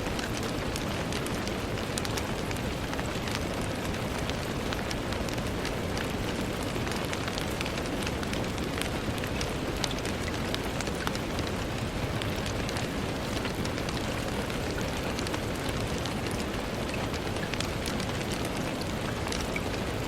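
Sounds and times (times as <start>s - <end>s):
rain on a window pane: 0.0s - 20.0s.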